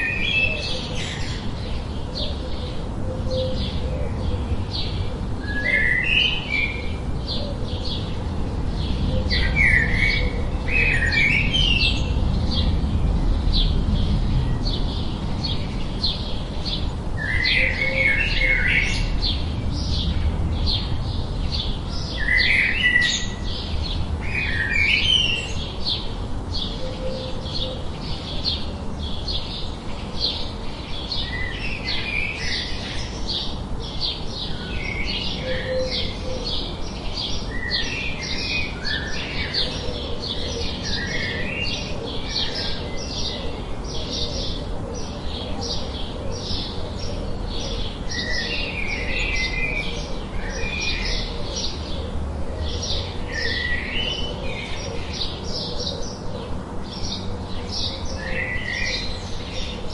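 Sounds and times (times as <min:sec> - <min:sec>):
flock of birds chirping: 0:00.0 - 0:59.9.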